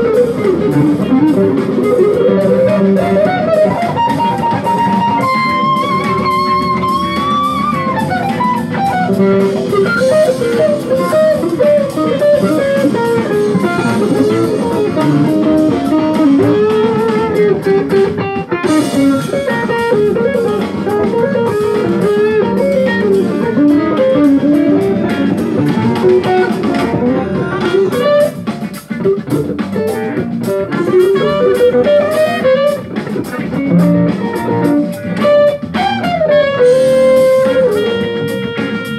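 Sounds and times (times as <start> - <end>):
bass: 0.0 - 38.9
drums: 0.0 - 38.9
electric guitar lead line: 0.0 - 38.9.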